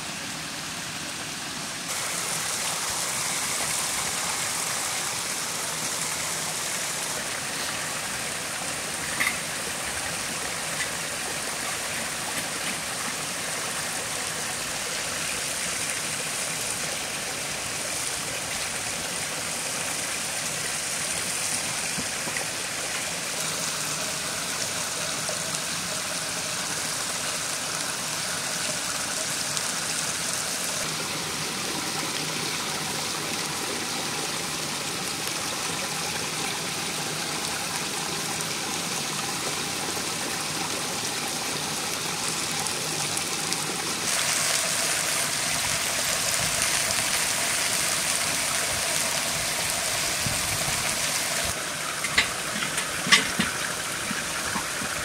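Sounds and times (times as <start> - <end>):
stream rushing and trickling: 0.0 - 55.0.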